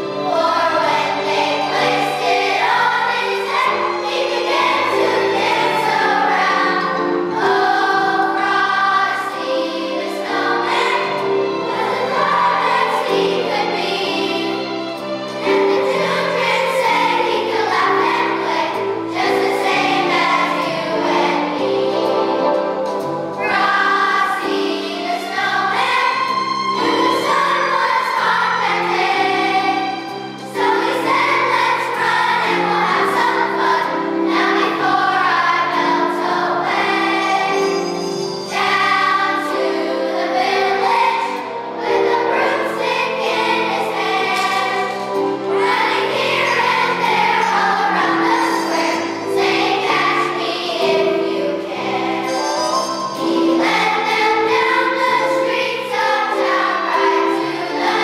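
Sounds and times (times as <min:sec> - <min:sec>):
children's choir singing: 0:00.0 - 0:58.0
instrumental accompaniment: 0:00.0 - 0:58.0.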